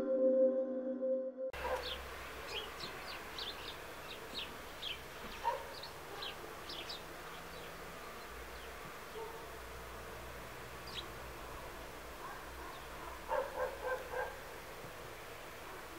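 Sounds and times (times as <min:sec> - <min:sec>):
sparrows chirping: 0:01.6 - 0:15.9.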